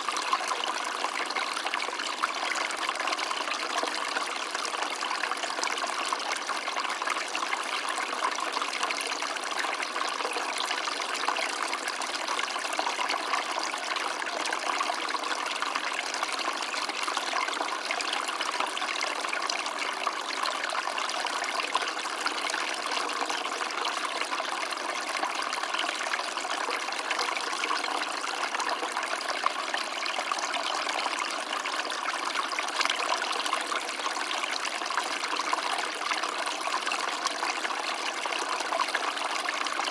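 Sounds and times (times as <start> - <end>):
stream of water running: 0.0 - 39.9.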